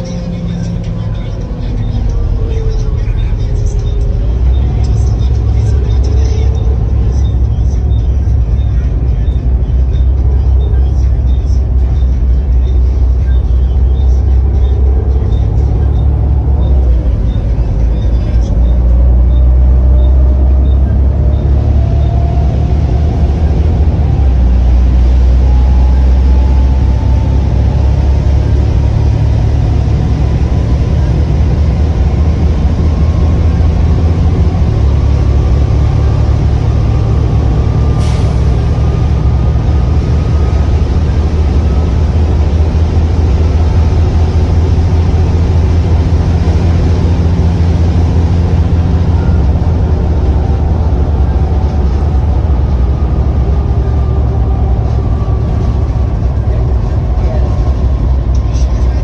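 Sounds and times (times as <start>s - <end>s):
bus diesel engine running: 0.0s - 59.0s
rising whine: 0.0s - 59.0s.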